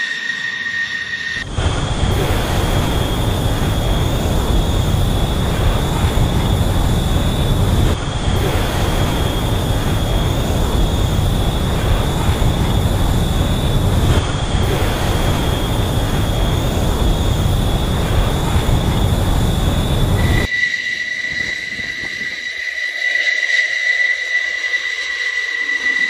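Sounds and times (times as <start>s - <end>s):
jet engine roar with whine: 0.0s - 26.0s.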